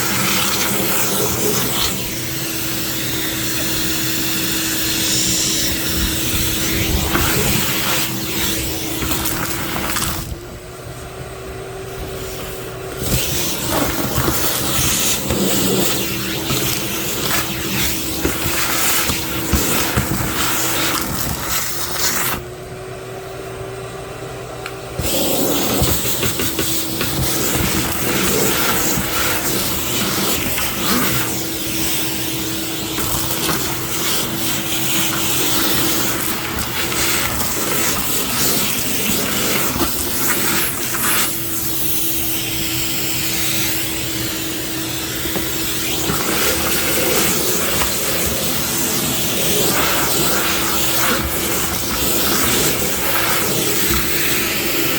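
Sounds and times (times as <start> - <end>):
air rushing through hose: 0.0 - 10.5, 11.8 - 22.4, 25.0 - 54.9
vacuum cleaner running: 0.0 - 54.9.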